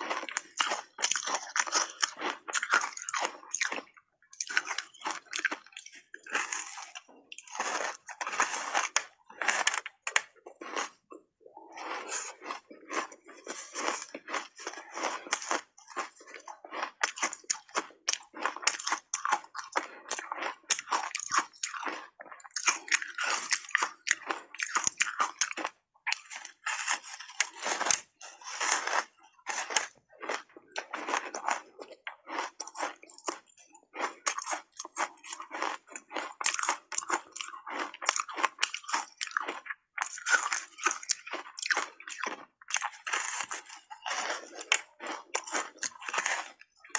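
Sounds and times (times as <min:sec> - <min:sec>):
chewing ice crunches: 0:00.0 - 0:46.9.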